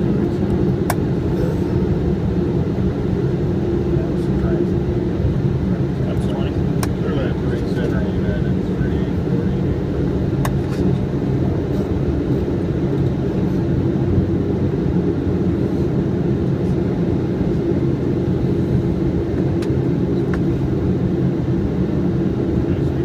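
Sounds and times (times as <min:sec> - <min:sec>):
aircraft cockpit drone: 0:00.0 - 0:23.0.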